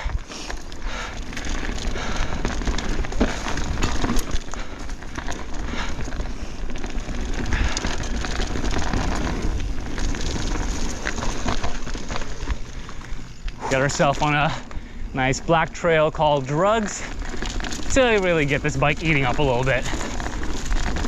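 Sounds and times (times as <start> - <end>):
bike clicks and rattles: 0.0 - 21.0
tyre and trail noise: 0.0 - 21.0.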